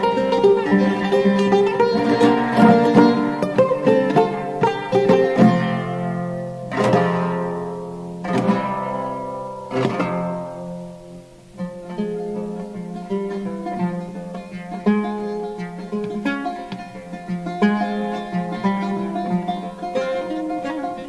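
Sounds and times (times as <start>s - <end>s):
plucked single notes: 0.0s - 21.0s
strummed string instrument chords: 0.0s - 21.0s.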